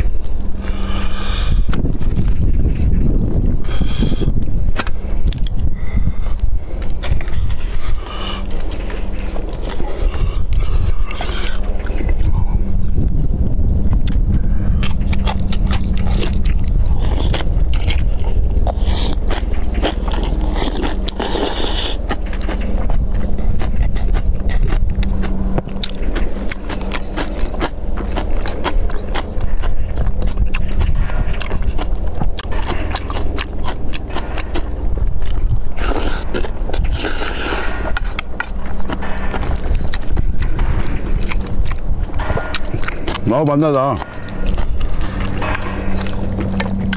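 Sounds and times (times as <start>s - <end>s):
crunchy chewing: 0.0s - 46.9s
low rumble: 0.0s - 46.9s
rush of noise: 0.0s - 46.9s.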